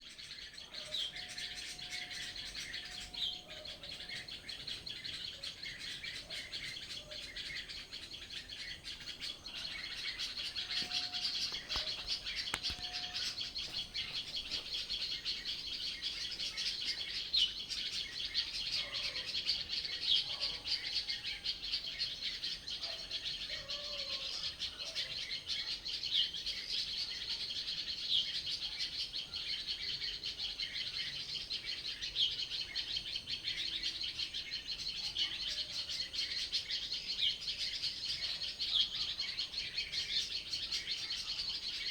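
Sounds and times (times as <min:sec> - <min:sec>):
dense bird chorus: 0:00.0 - 0:41.9.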